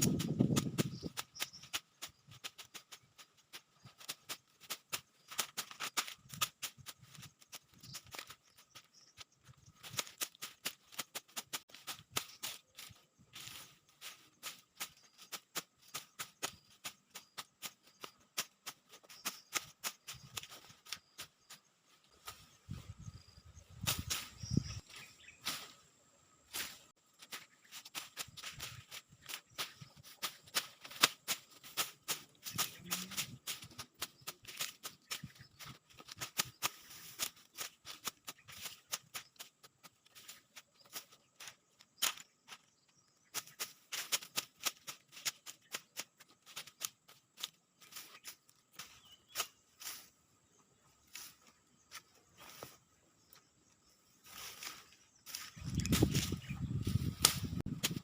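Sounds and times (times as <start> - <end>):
blade chopping weeds: 0.0 - 22.5, 26.5 - 50.1, 54.3 - 58.0.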